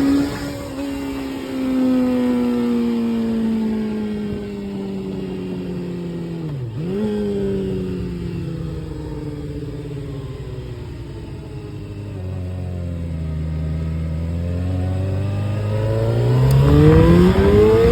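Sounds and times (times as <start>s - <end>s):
motorcycle engine slowing down: 3.2s - 17.9s.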